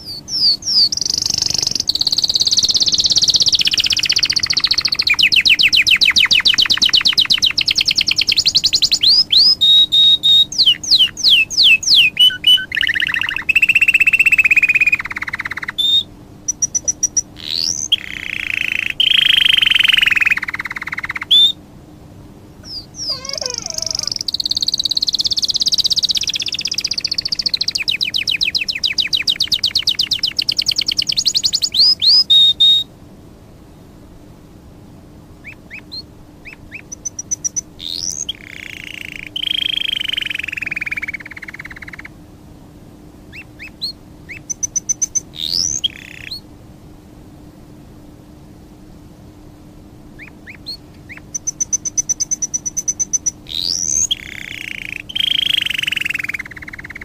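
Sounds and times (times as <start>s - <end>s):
songbird singing trills: 0.0s - 21.6s, 22.6s - 32.9s, 35.4s - 42.2s, 43.3s - 46.5s, 50.2s - 57.0s.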